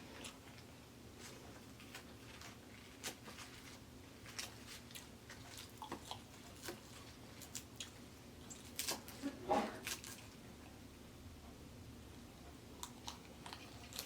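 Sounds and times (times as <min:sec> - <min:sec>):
person chewing salad: 0:00.0 - 0:10.8, 0:12.7 - 0:14.0.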